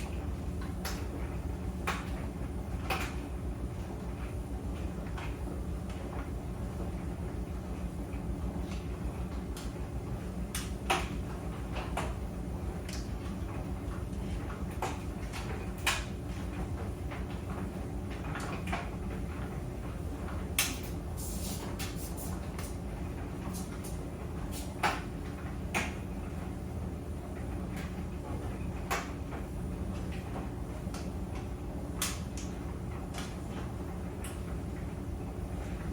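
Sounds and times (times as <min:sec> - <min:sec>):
clicks and knocks in dryer: 0:00.0 - 0:06.4, 0:08.2 - 0:26.3, 0:27.4 - 0:34.7
clothes dryer rumbling: 0:00.0 - 0:35.9.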